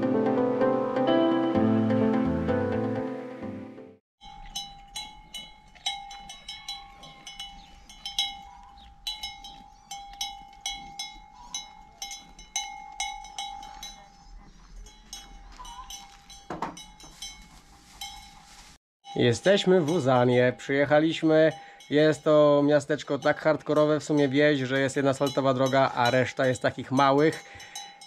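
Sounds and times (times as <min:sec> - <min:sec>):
metal livestock bells clanking: 0:04.2 - 0:28.0.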